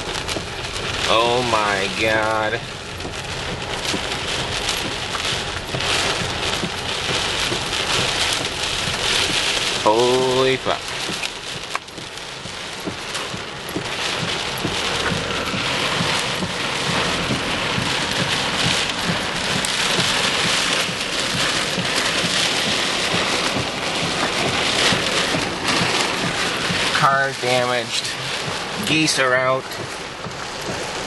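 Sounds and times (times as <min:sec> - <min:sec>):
raindrops spattering nearby: 0:00.0 - 0:31.0
steady rain: 0:00.0 - 0:31.0.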